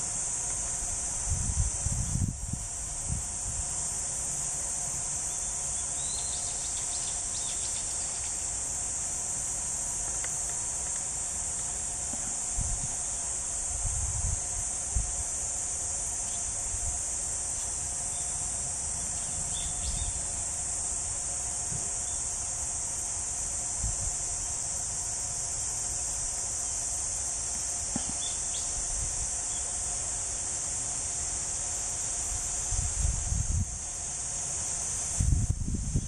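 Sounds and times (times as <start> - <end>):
insect chorus shrilling: 0.0 - 36.0.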